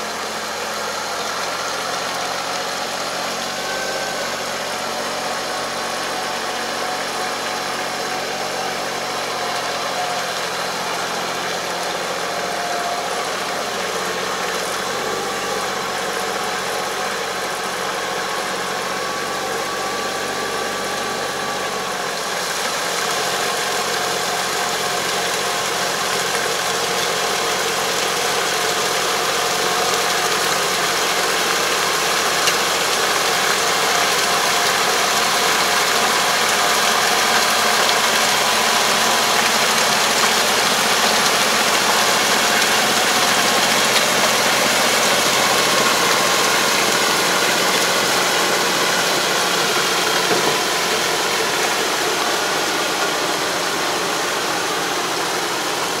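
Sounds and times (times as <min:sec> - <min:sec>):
harrow churning water and mud: 0:00.0 - 0:56.0
tractor diesel engine: 0:00.0 - 0:56.0.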